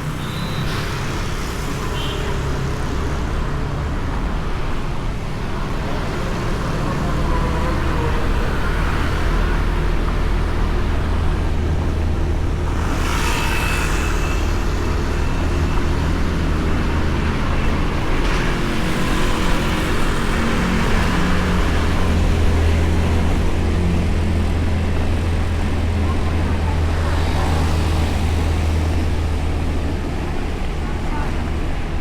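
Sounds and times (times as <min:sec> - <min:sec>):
passing traffic rush: 0:00.0 - 0:32.0
road and wind rumble: 0:00.0 - 0:32.0.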